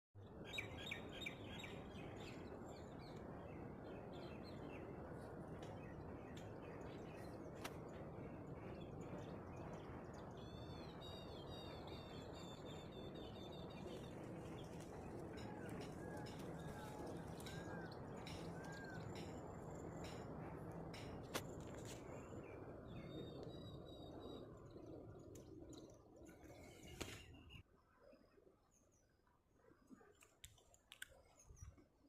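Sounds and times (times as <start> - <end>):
birds chirping: 0.5 - 27.6.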